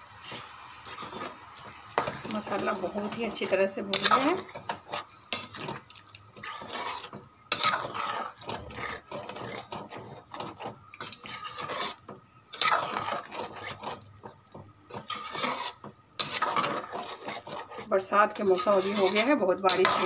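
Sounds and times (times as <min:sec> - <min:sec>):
spatula scraping through gravy: 0:00.2 - 0:20.0.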